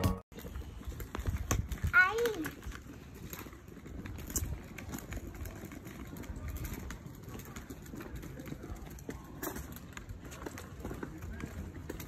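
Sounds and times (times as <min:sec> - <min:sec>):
wheels rolling over brick paving: 0:00.0 - 0:12.0
small clicks and rattles: 0:00.4 - 0:12.0.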